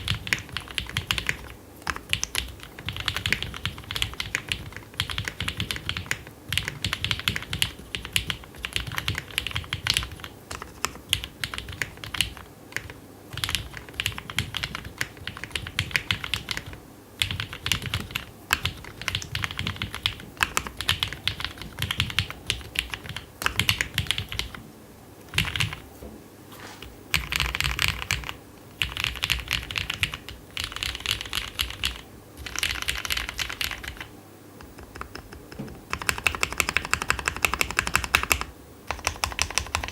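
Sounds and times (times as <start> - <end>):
typing on mechanical keyboard: 0.0 - 24.6, 25.3 - 25.8, 27.1 - 39.9.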